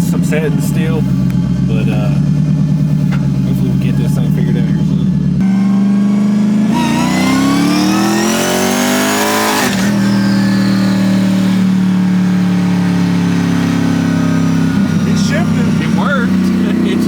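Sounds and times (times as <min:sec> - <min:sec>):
car engine revving through gear shift: 0:00.0 - 0:17.0.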